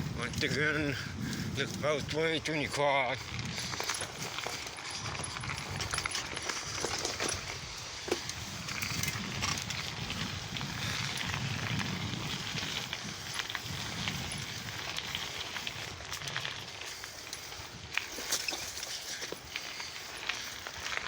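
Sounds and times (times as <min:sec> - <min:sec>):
bicycle tyres rolling on pavement: 0:00.0 - 0:21.0
bike clicks and rattles: 0:00.0 - 0:21.0
wind rumble on microphone: 0:00.0 - 0:21.0.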